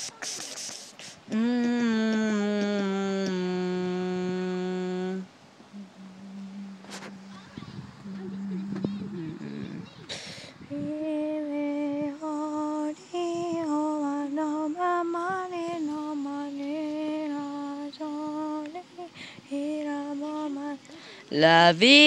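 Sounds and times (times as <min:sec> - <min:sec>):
woman singing wordless tune: 0:01.2 - 0:22.0.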